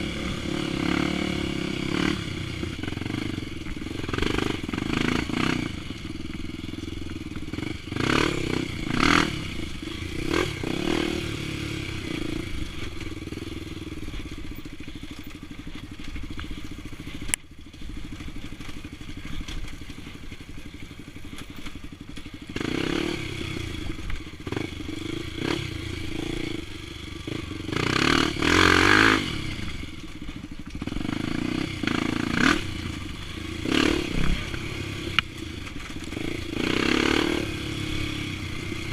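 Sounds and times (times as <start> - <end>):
bike rattling over rough ground: 0.0 - 38.9
motorcycle engine revving: 0.0 - 38.9.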